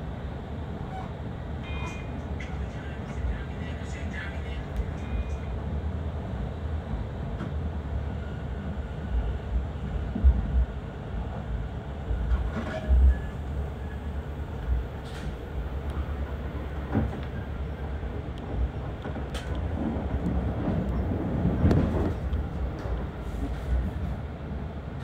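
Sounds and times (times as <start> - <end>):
train rumble from inside carriage: 0.0 - 25.0.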